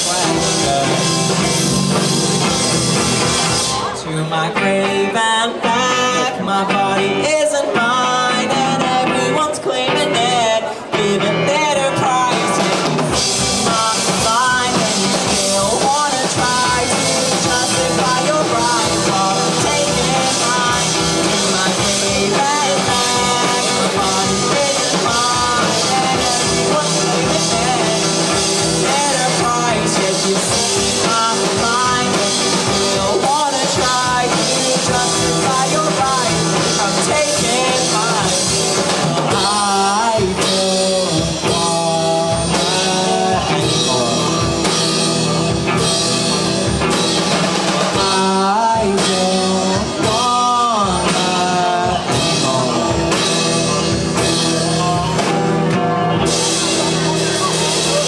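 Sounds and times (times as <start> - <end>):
bass guitar: 0.0 - 58.0
drum kit beat: 0.0 - 58.0.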